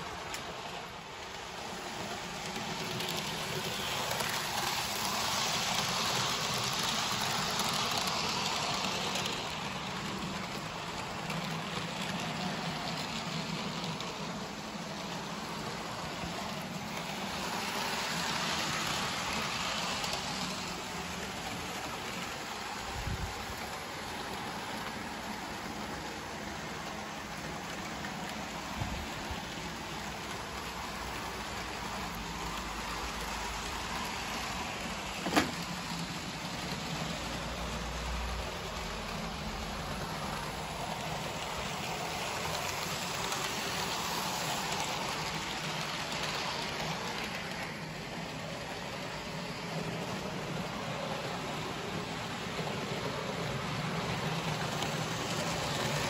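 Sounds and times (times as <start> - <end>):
model train wheels rattling on rail: 0.0 - 56.0.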